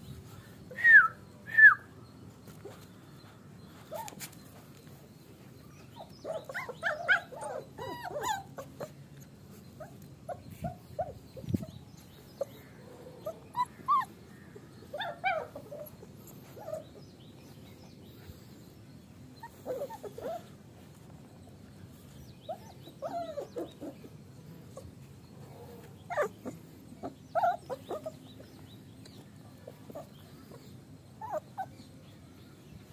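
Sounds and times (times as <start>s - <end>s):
puppies whimpering and squeaking: 2.3s - 32.3s.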